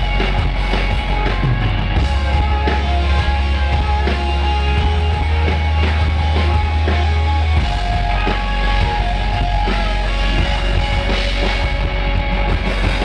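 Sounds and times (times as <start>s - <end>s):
deep bass note: 0.0s - 13.0s
drum kit: 0.0s - 13.0s
electric guitar: 0.0s - 13.0s.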